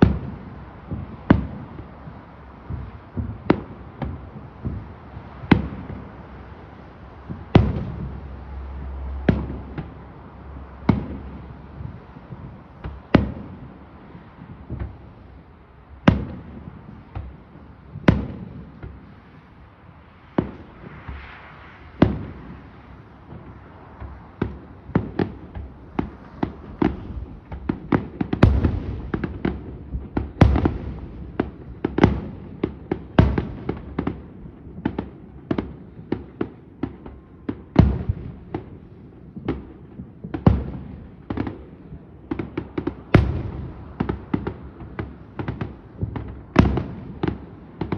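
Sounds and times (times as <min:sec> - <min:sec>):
fireworks booming and crackling: 0:00.0 - 0:47.9.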